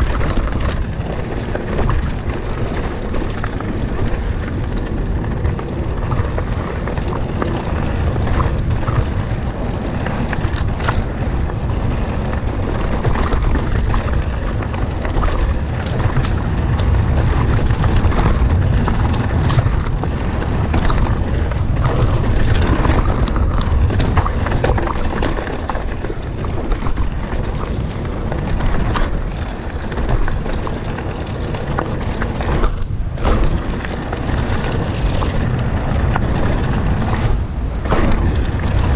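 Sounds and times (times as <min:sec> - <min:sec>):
bike rattling and clacking: 0:00.0 - 0:38.9
tyres rumbling on dirt trail: 0:00.0 - 0:38.9
wind buffeting microphone: 0:00.0 - 0:38.9.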